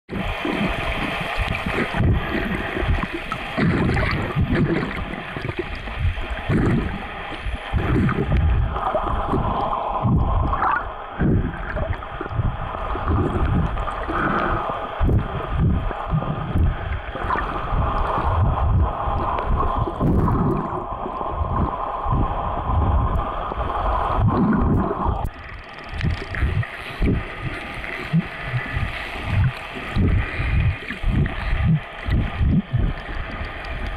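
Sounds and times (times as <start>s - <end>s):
droning hum: 0.1s - 33.9s
underwater gurgling water: 0.1s - 33.9s.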